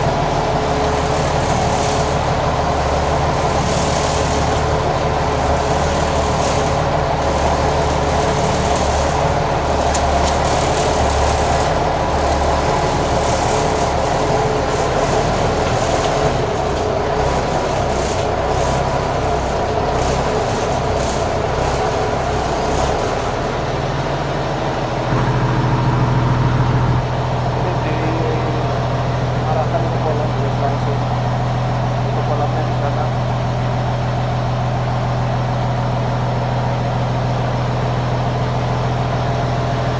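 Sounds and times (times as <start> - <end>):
pellet machine humming: 0.0 - 39.9.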